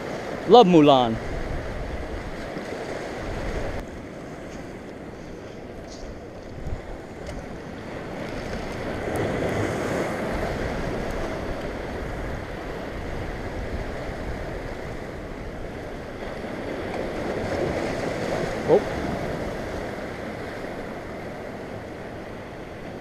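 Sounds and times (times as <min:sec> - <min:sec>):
ocean surf breaking on boulders: 0:00.0 - 0:23.0.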